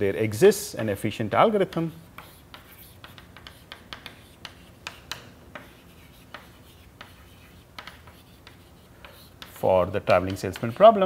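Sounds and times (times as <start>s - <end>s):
chalk scratching on chalkboard: 1.6s - 11.0s
chalk tapping on board: 1.6s - 11.0s.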